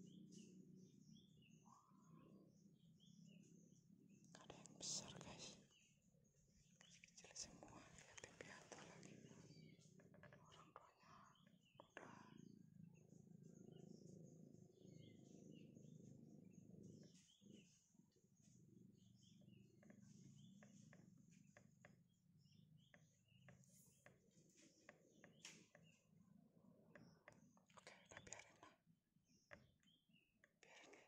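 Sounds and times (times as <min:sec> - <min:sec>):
small bird chirps: 0:00.0 - 0:31.0.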